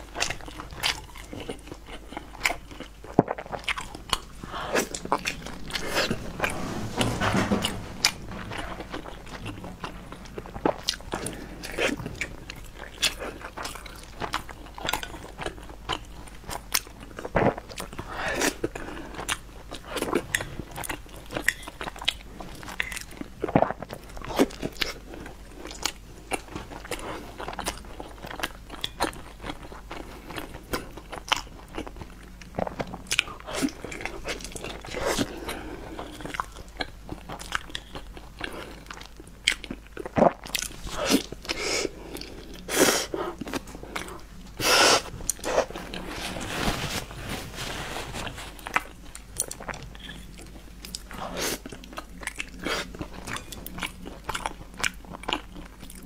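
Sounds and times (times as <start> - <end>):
crunchy food being chewed: 0.0 - 56.0.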